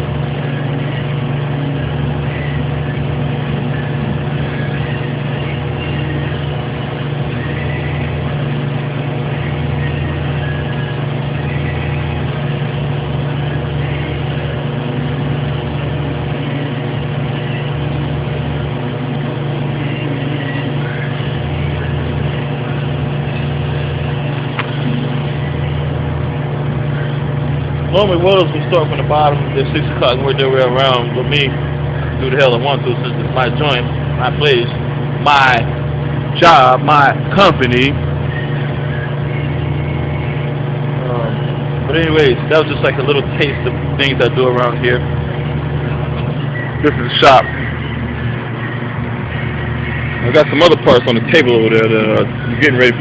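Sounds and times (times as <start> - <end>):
low hum: 0.0 - 53.0
welding arc buzzing: 0.0 - 53.0.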